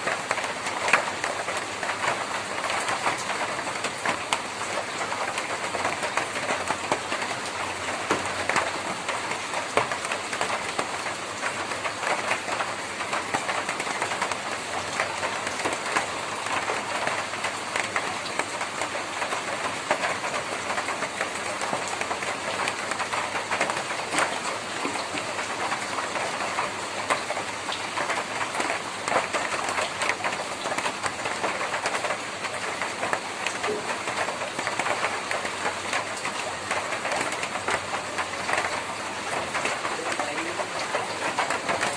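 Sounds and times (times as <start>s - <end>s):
rain on a tin roof: 0.0s - 41.9s.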